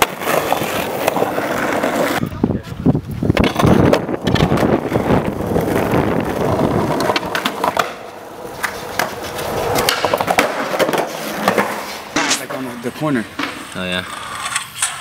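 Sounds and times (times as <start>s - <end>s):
skateboard grinding on concrete ledge: 0.0s - 2.2s, 3.3s - 15.0s
skateboard wheels rolling on asphalt: 0.0s - 15.0s.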